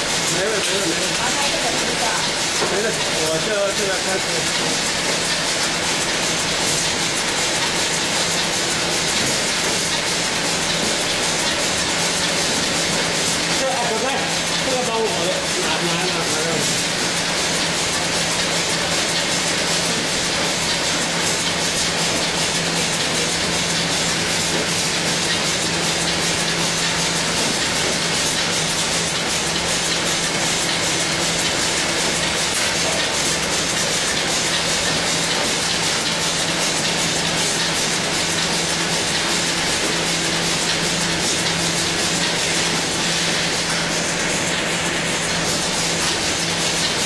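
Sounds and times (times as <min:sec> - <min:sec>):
machine mechanical clatter: 0:00.0 - 0:47.0.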